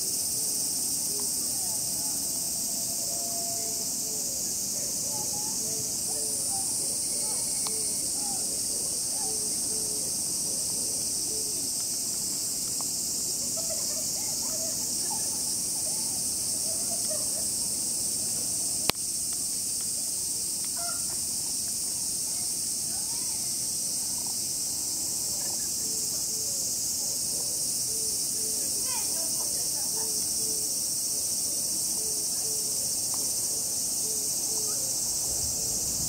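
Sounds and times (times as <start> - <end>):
cicadas buzzing: 0.0 - 36.0.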